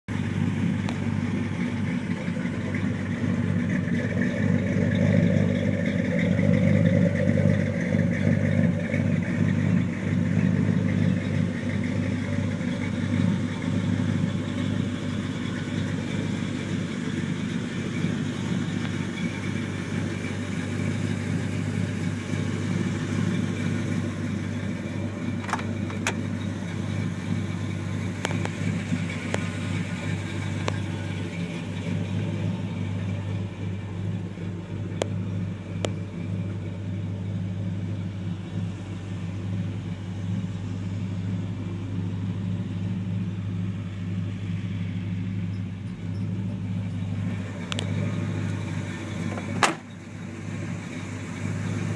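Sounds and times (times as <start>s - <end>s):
pickup engine idling: 0.1s - 51.9s.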